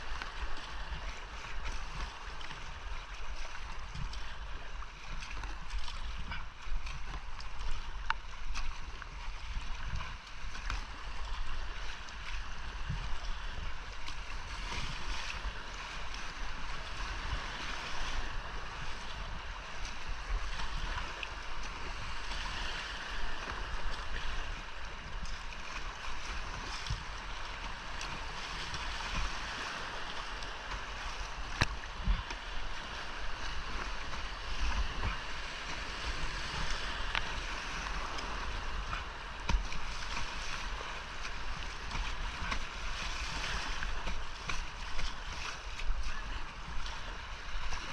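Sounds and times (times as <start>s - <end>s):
paddle strokes hitting water: 0.0s - 47.9s
rushing whitewater roar: 0.0s - 47.9s
wind buffeting microphone: 0.0s - 47.9s.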